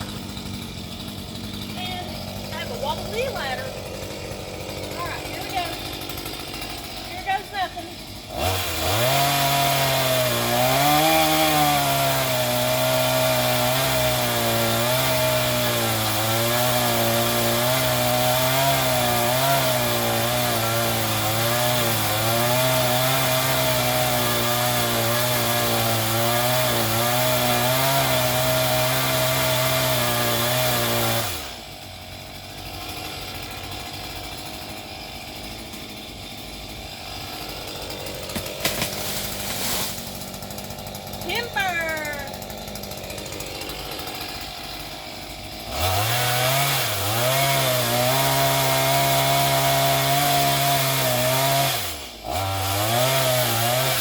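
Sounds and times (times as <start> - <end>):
chainsaw cutting tree limb: 0.0 - 54.0.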